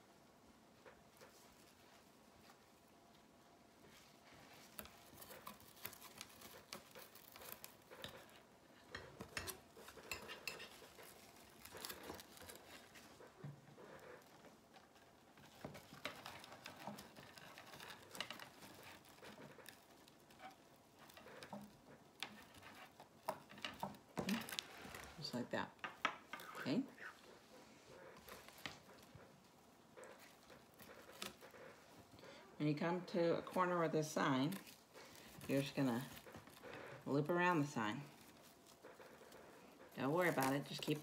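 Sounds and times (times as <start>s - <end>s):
mesh crinkling and rustling: 0.4s - 41.0s.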